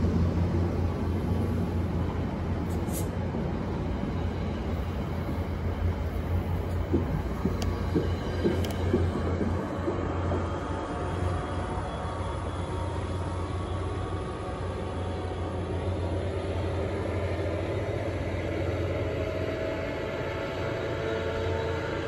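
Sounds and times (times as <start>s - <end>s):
distant locomotive: 0.0s - 22.0s
train wheels rumbling on rail: 0.0s - 22.0s.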